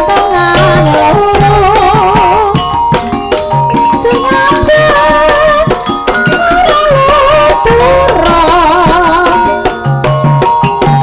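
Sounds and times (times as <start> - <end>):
hand drum strokes: 0.0 - 11.0
metallophone tones: 0.0 - 11.0
wavering melody line: 0.0 - 11.0.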